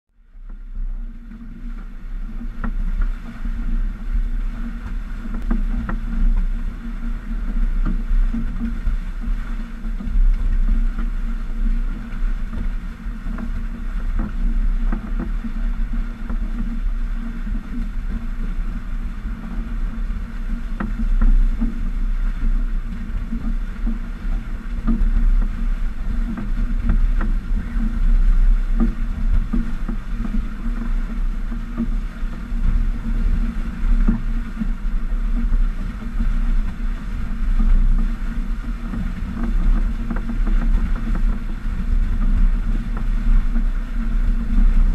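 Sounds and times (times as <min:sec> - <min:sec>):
water rushing along boat hull: 0:00.1 - 0:44.9
wind rumble on microphone: 0:00.1 - 0:44.9.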